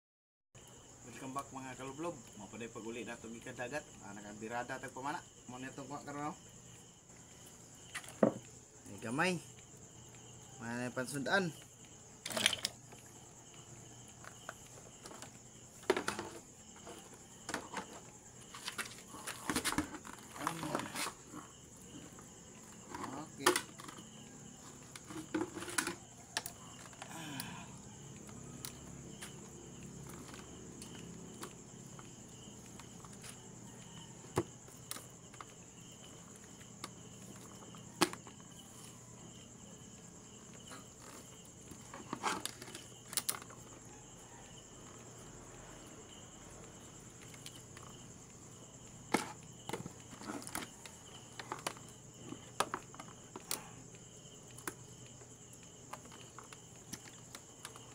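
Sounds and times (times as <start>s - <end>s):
night insects chirring: 0.6s - 57.9s.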